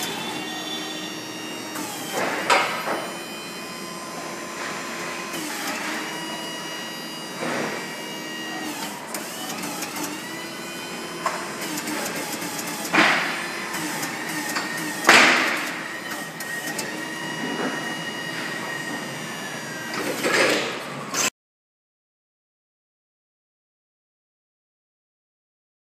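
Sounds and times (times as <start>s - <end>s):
electric motor whine: 0.0s - 21.2s.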